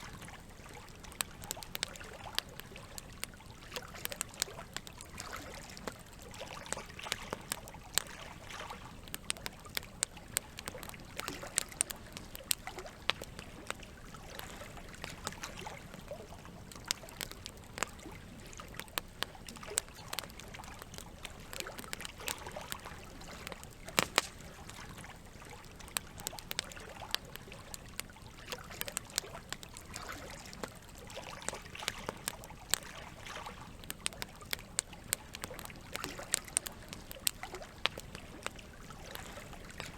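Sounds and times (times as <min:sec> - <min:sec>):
campfire crackling and popping: 0:00.0 - 0:39.9
trickling water: 0:00.0 - 0:39.9.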